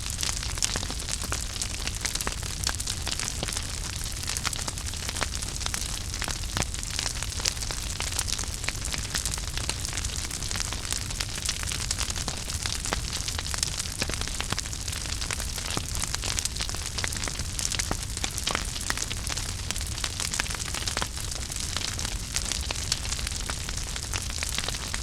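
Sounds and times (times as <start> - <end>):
fire crackling and popping: 0.0 - 25.0
wood fire hissing and rumbling: 0.0 - 25.0.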